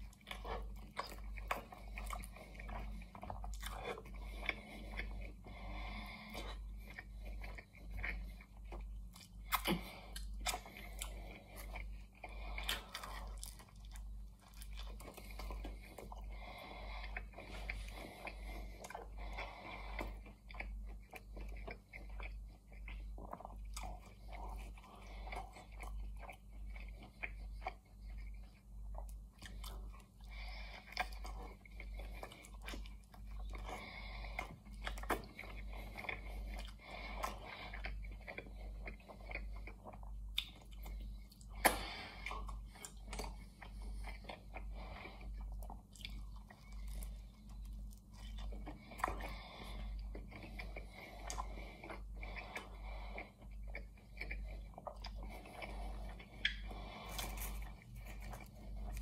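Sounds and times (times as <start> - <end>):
chewing pie with crunchy pastry: 0.0 - 59.0.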